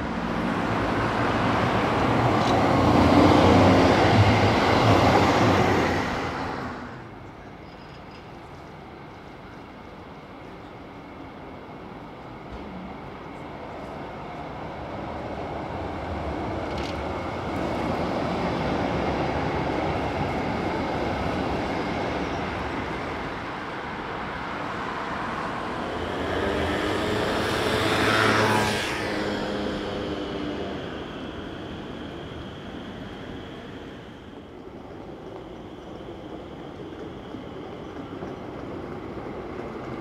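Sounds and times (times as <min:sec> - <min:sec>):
tram rumbling on rails: 0:00.0 - 0:40.0.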